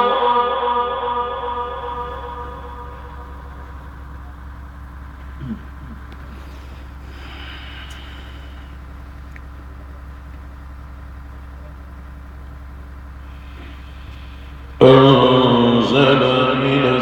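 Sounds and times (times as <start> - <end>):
low electrical hum: 0.0 - 17.0
background hiss: 0.9 - 16.4.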